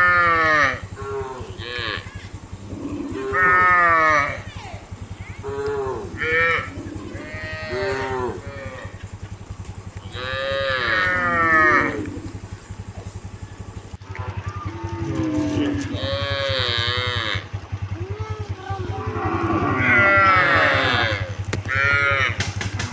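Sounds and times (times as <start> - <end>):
cows mooing: 0.0 - 4.5, 5.3 - 9.2, 10.0 - 12.7, 14.0 - 22.9
steady low rumble: 0.1 - 22.9.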